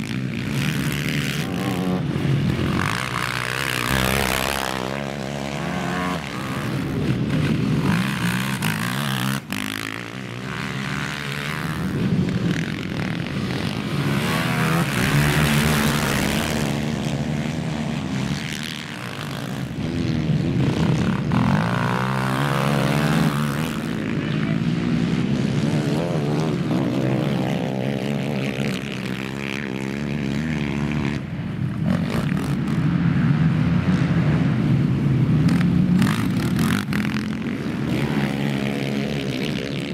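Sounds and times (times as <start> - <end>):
quad engines revving: 0.0 - 34.5, 35.2 - 39.9.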